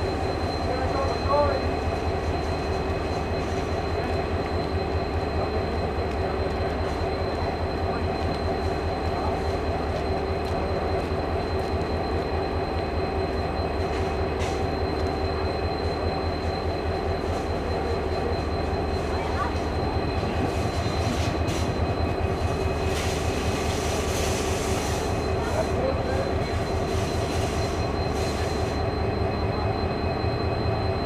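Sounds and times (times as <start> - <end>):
diesel locomotive engine throb: 0.0 - 31.0.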